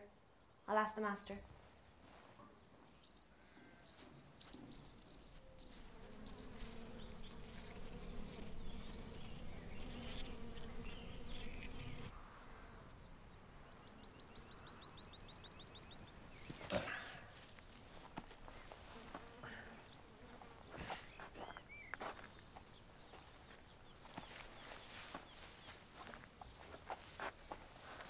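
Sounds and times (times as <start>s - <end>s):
small birds chirping: 1.9s - 28.0s
bumblebees buzzing: 4.8s - 28.0s.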